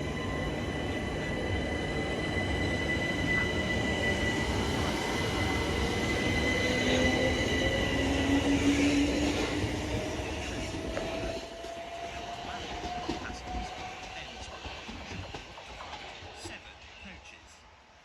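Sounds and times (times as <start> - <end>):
train rumbling on rails: 0.0 - 17.5.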